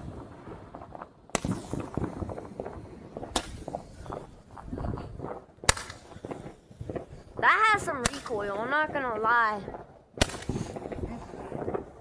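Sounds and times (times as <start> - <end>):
faint firework pops: 0.0 - 9.0, 9.6 - 12.0
sharp firework shots: 0.0 - 12.0.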